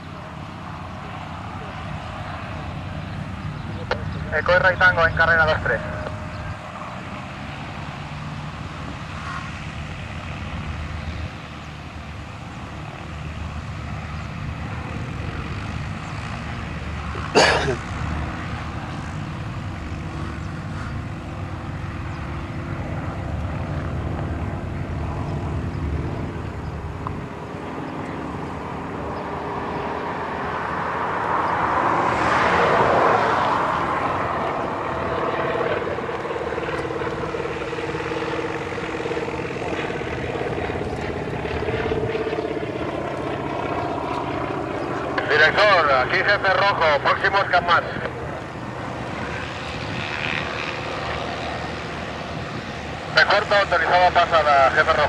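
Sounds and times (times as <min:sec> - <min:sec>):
propeller aircraft engines droning: 0:00.0 - 0:55.0.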